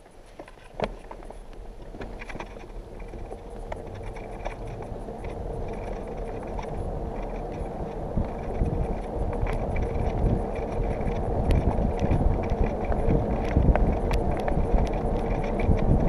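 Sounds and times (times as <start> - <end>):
tyres rumbling on pavement: 0.0 - 16.0
clicks and rattles: 0.3 - 16.0
wind on microphone: 0.8 - 16.0.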